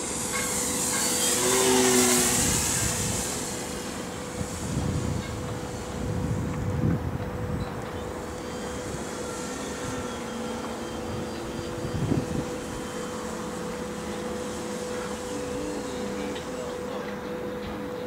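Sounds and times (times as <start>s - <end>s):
model plane propeller drone: 0.0s - 18.0s.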